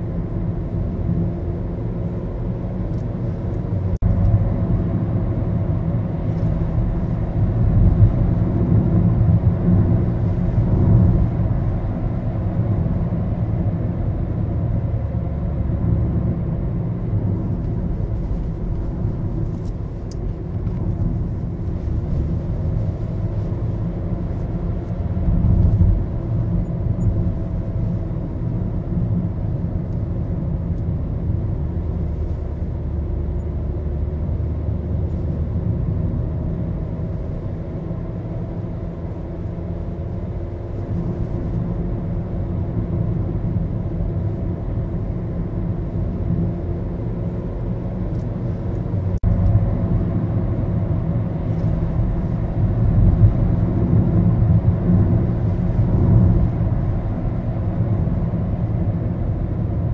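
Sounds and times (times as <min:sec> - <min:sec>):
car engine and road rumble: 0:00.0 - 0:59.9
faint engine hum: 0:00.0 - 0:59.9.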